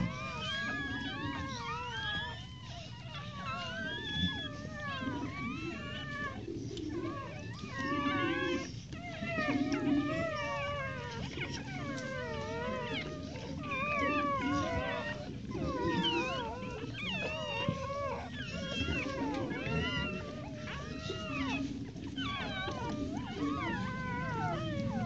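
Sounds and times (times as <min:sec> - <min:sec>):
puppies squealing and whining: 0:00.0 - 0:25.0.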